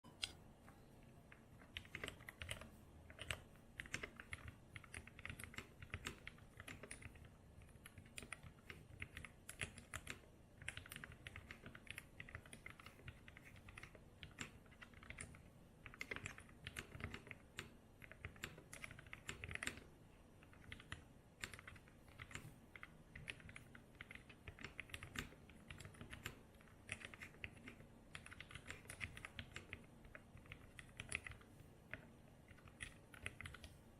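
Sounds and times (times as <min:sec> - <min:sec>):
typing on mechanical keyboard: 0:01.3 - 0:33.8.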